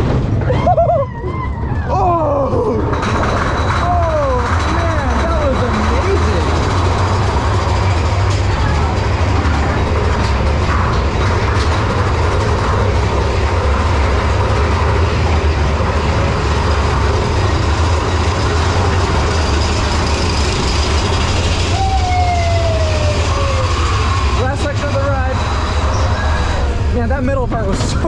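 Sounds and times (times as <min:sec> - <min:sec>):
roller coaster wheels rumbling on rail: 0:00.0 - 0:28.0.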